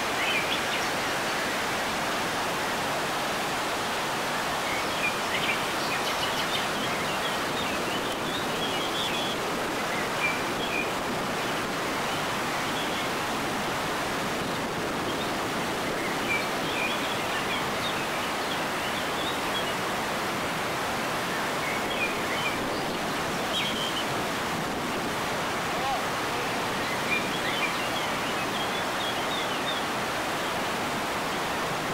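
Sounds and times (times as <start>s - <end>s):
rushing water from dam: 0.0s - 31.9s.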